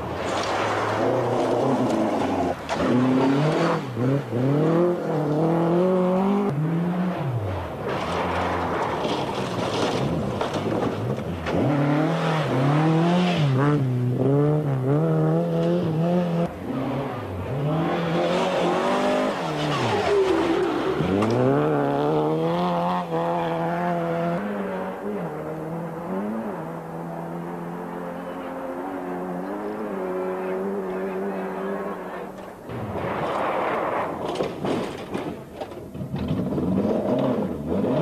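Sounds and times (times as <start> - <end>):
rally car engine revving: 0.0 - 34.7, 35.8 - 38.0.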